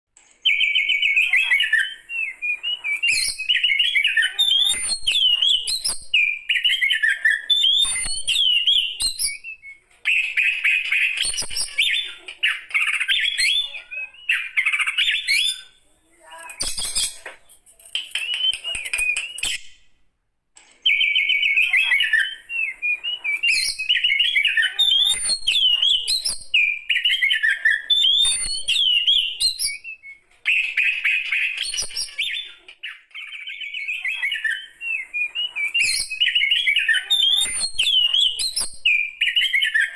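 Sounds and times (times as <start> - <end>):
bird singing whistles and chirps: 0.3 - 19.9, 20.8 - 39.9.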